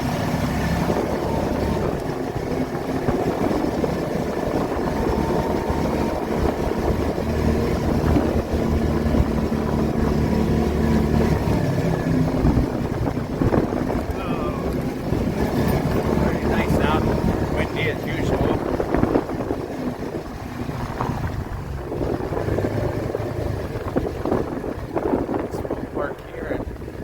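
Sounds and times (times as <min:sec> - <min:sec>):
car engine hum: 0:00.0 - 0:27.0
road noise: 0:00.0 - 0:27.0.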